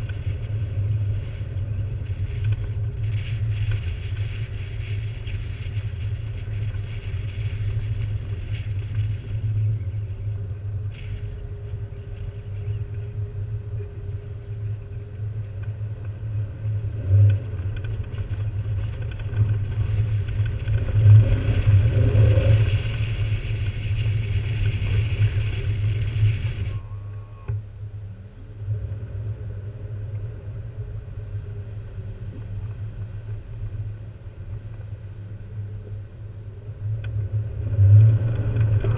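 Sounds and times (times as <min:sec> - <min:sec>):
wind buffeting microphone: 0:00.0 - 0:27.7, 0:28.5 - 0:38.9
engine rumble: 0:00.0 - 0:38.9.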